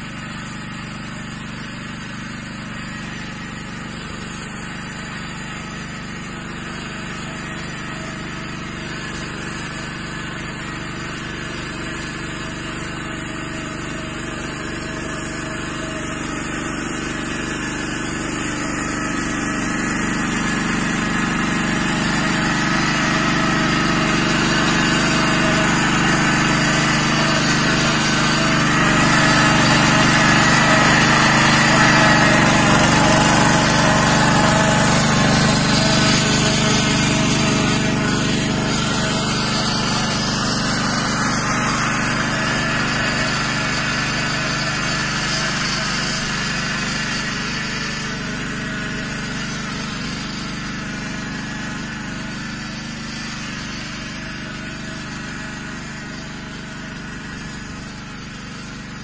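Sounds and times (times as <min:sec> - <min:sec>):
walking tractor engine running: 0:00.0 - 0:59.0.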